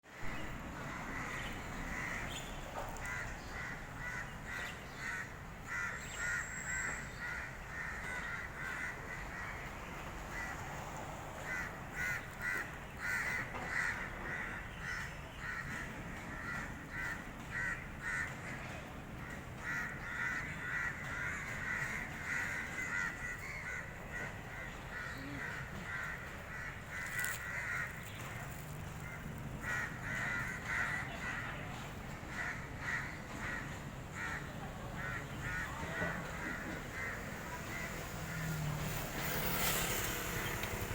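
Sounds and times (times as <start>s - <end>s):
birds calling: 0.2s - 10.6s, 11.4s - 18.6s, 19.2s - 40.9s.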